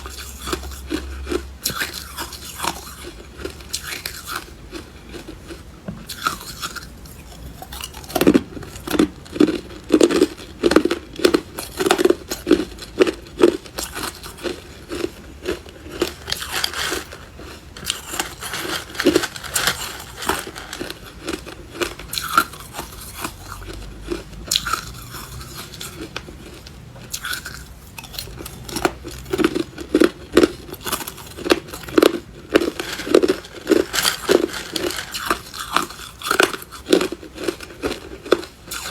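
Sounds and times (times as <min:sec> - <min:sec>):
person crunching ice: 0:00.0 - 0:04.5, 0:06.1 - 0:38.9.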